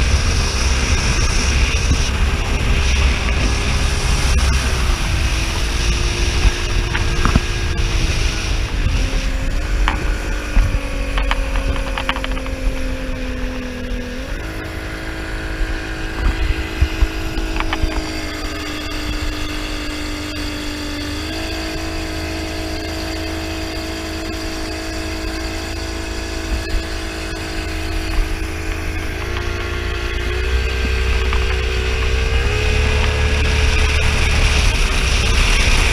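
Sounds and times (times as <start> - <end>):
speedboat engine running: 0.0 - 35.9.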